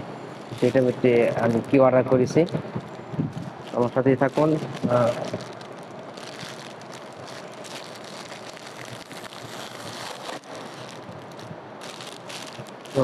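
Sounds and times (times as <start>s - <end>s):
plastic bag crinkling: 0.2s - 13.0s.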